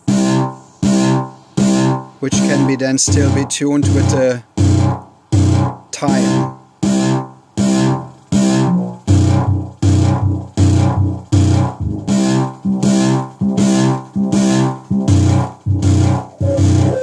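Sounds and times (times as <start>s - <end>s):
distorted synth bass notes: 0.0s - 17.0s.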